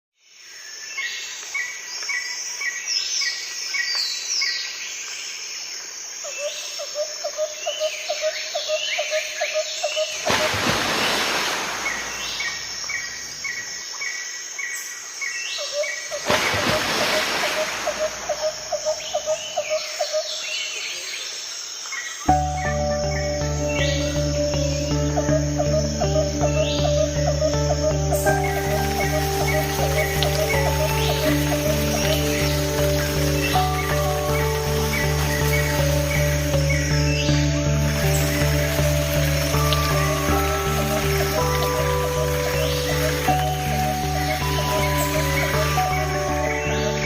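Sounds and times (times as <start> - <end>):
birds chirping and calling: 6.4 - 21.1, 22.3 - 47.0.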